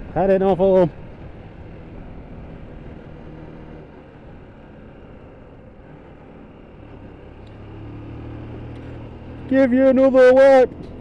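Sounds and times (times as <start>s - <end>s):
motorcycle engine: 0.0s - 11.0s
wind and road noise: 0.0s - 11.0s.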